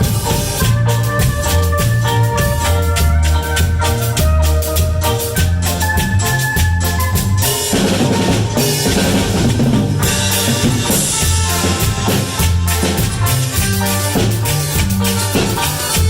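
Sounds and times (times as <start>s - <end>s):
cumbia band playing: 0.0s - 16.0s
drum kit: 0.0s - 16.0s
keyboard: 0.0s - 16.0s
steady bass line: 0.0s - 16.0s.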